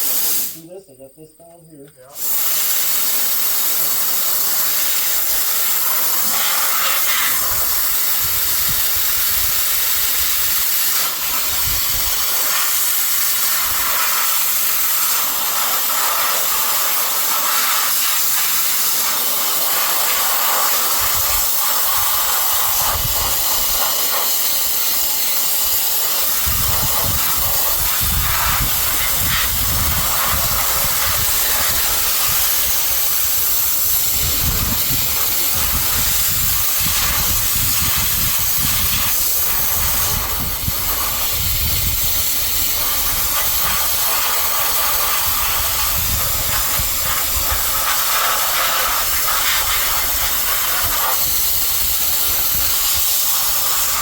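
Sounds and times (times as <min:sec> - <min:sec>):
sandblaster hissing: 0:00.0 - 0:01.0, 0:02.0 - 0:54.0.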